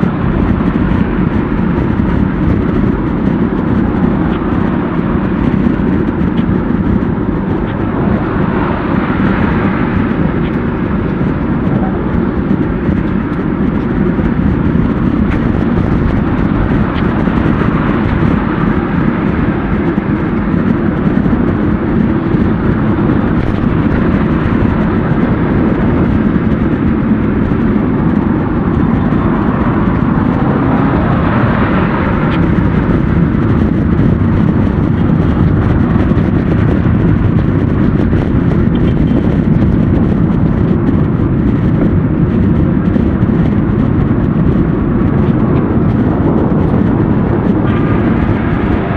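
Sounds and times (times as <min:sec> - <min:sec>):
road noise: 0:00.0 - 0:48.9
wind rumble on microphone: 0:00.0 - 0:48.9.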